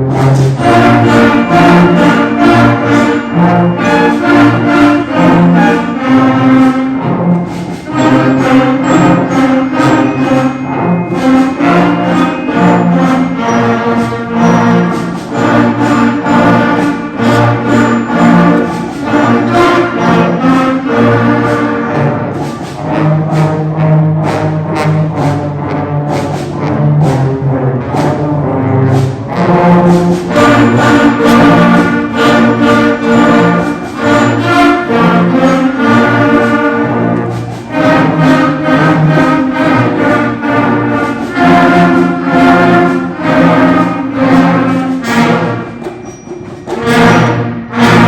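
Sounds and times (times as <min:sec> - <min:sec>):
brass chords: 0:00.0 - 0:48.0
concert band playing: 0:00.0 - 0:48.0.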